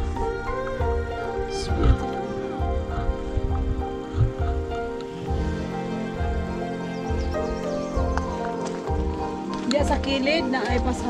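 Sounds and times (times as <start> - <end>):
background music with sustained chords: 0.0 - 11.0
low beat: 0.0 - 11.0.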